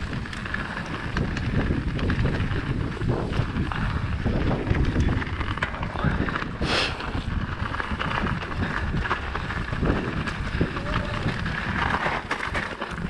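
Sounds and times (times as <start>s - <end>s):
bike rattling over bumps: 0.0s - 13.0s
bike tyres rolling on dirt: 0.0s - 13.0s
wind buffeting microphone: 0.0s - 13.0s.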